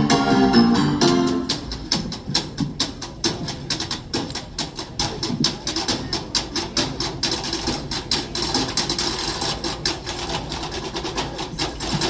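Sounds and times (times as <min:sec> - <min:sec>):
marching percussion strikes: 0:00.0 - 0:12.0.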